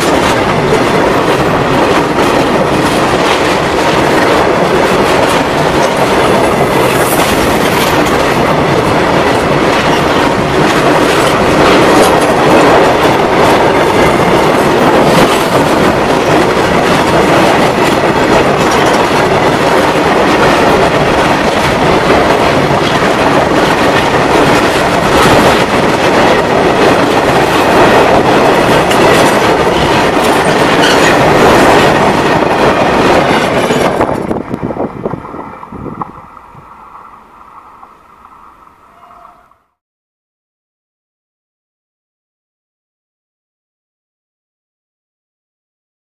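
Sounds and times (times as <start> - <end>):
freight wagons rumbling over rails: 0.0 - 39.4.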